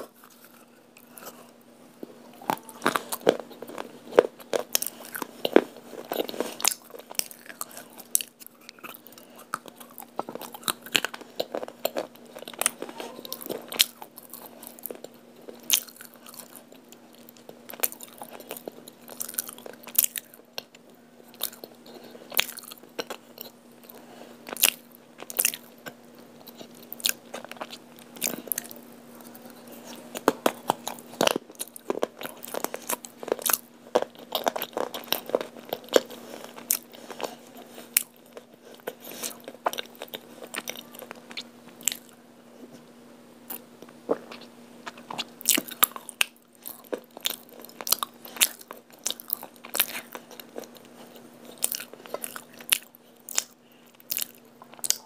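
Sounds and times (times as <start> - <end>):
crunching and chewing clay pieces: 0.0 - 42.8, 43.4 - 55.0
faint low hum: 0.0 - 55.0.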